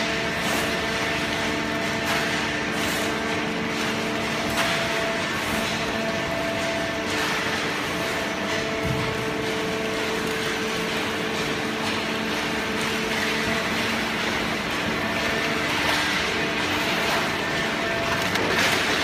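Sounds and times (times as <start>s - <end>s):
baler machine hum: 0.0s - 19.0s.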